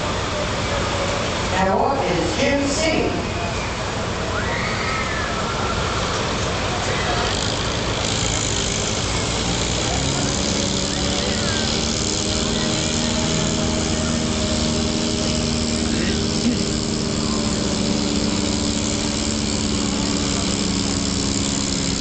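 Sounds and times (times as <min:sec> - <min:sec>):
tractor engine under load: 0:00.0 - 0:04.3, 0:05.7 - 0:22.0.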